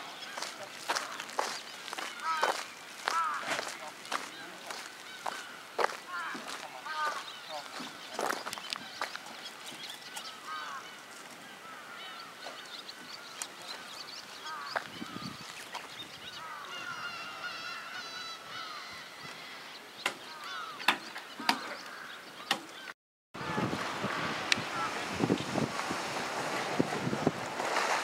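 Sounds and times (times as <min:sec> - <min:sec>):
birds calling: 0:00.0 - 0:25.7.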